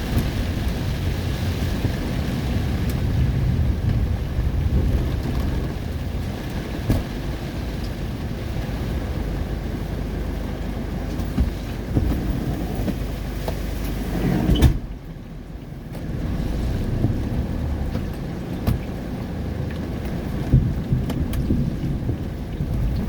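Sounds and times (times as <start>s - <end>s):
heavy rain: 0.0s - 23.0s
vehicle driving rumble: 0.0s - 23.0s.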